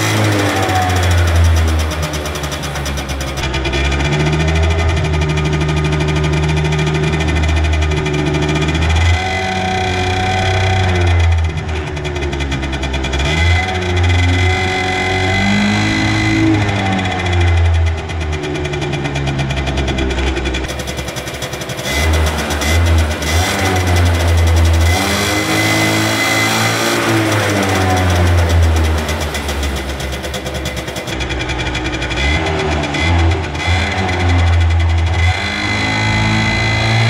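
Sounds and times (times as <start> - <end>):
scooter engine revving: 0.0 - 37.0.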